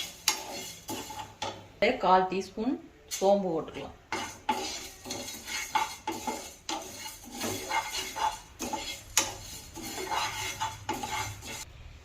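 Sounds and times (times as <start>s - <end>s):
spoon scraping spices in a pan: 0.0s - 2.5s, 3.1s - 11.7s.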